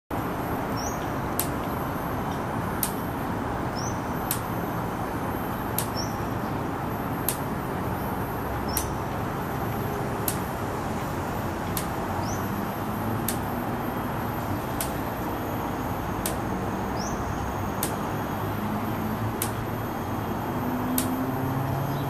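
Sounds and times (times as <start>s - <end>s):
traffic rumble: 0.2s - 22.0s.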